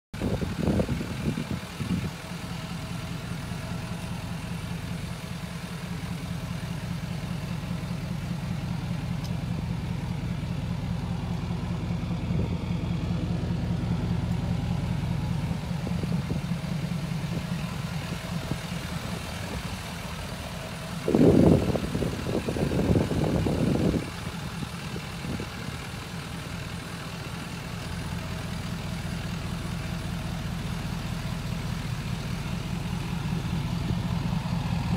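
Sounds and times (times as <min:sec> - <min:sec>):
diesel truck idling: 0:00.1 - 0:34.9.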